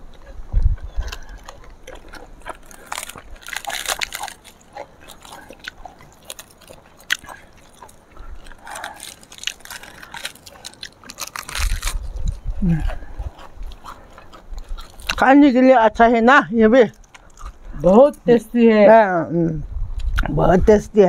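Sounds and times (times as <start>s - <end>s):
crunching raw vegetables: 0.0s - 18.6s.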